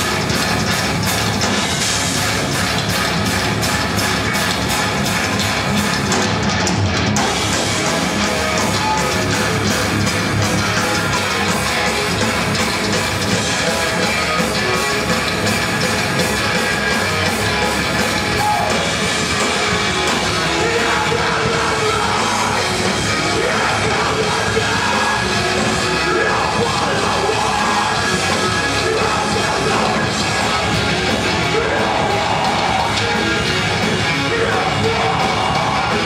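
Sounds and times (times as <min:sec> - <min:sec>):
heavy metal band playing: 0:00.0 - 0:36.0.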